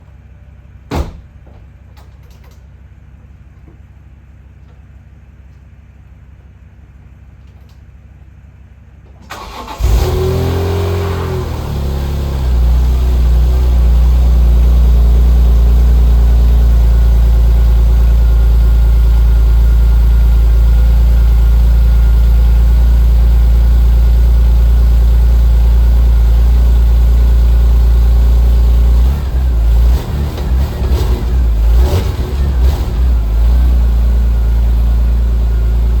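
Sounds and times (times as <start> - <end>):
car engine starting and idling: 0.0 - 36.0.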